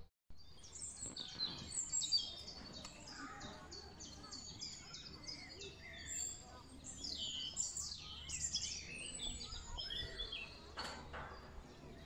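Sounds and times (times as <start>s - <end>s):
faint outdoor background noise: 0.3s - 12.0s
songbirds chirping and singing: 0.4s - 12.0s.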